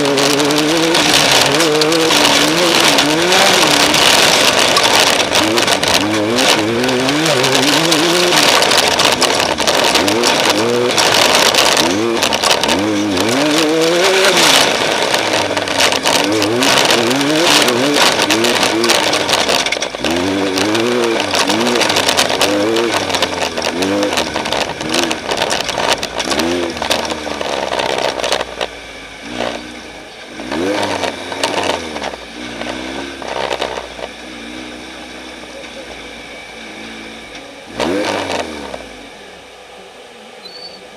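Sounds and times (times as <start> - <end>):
loud rattling: 0.0 - 34.2
engine revving: 0.0 - 39.5.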